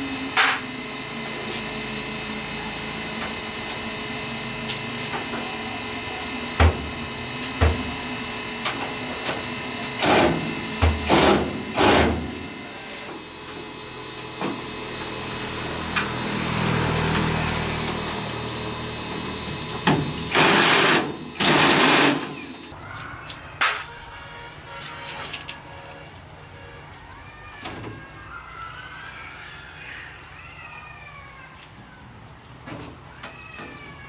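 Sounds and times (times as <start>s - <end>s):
steady mechanical hum: 0.0s - 30.8s.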